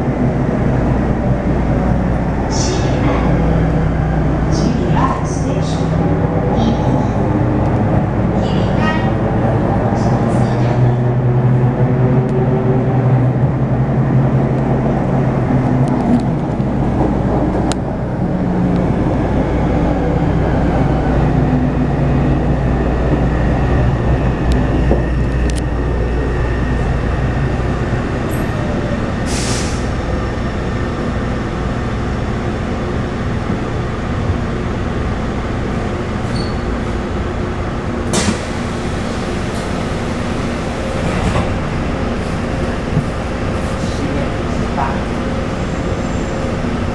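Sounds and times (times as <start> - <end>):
train wheel and running noise: 0.0 - 46.9.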